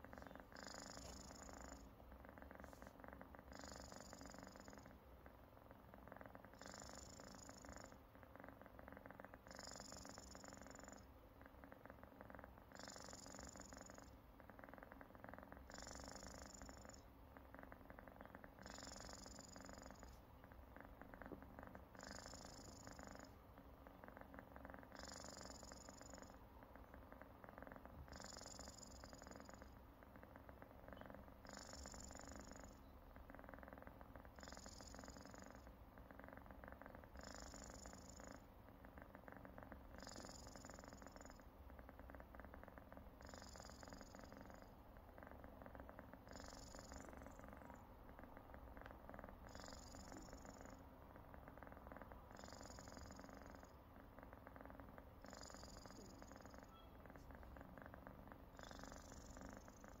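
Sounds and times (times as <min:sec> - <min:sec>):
cat snoring: 0:00.0 - 1:00.0.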